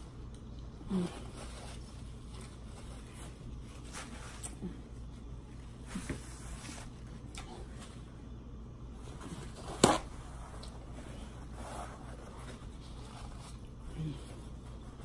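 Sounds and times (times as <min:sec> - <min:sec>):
low electrical hum: 0:00.0 - 0:15.0
paper napkin rustling: 0:00.8 - 0:08.1, 0:08.9 - 0:15.0.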